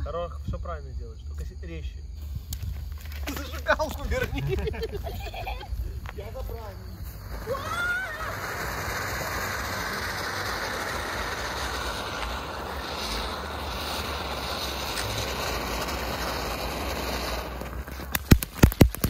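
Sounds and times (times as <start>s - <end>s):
firework fountain hissing: 2.2s - 19.0s
sharp crackling pops: 2.2s - 19.0s.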